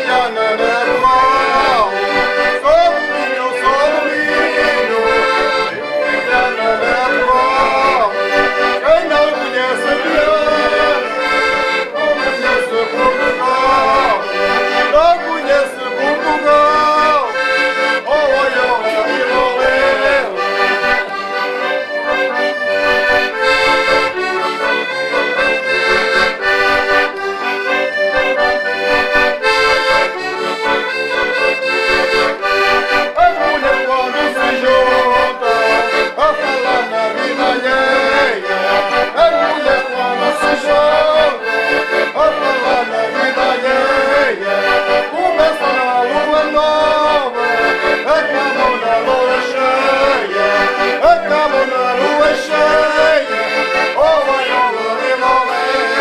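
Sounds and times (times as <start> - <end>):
button accordion folk tune: 0.0 - 56.0.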